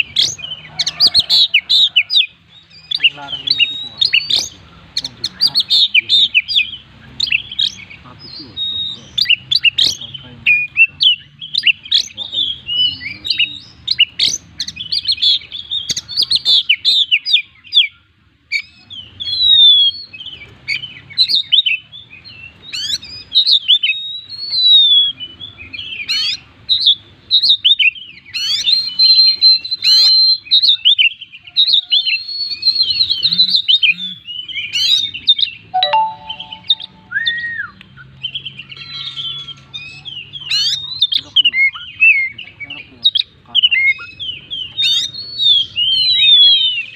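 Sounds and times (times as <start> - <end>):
songbird singing: 0.0 - 46.9.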